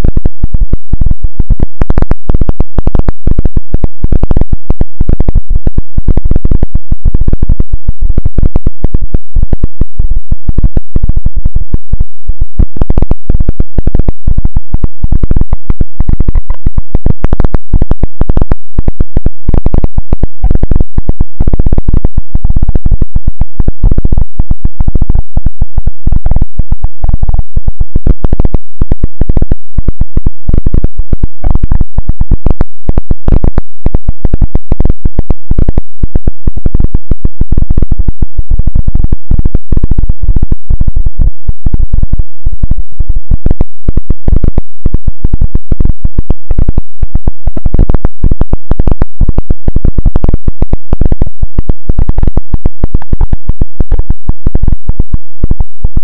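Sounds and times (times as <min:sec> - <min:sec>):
harsh distorted crackling noise: 0:00.0 - 0:56.0.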